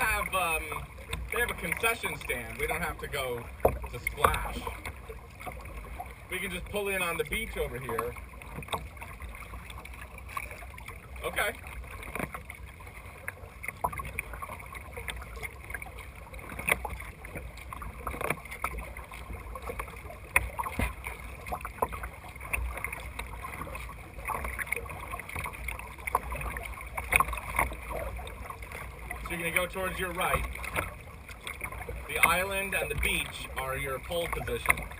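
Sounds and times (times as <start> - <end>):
water splashing against kayak hull: 0.0 - 34.9.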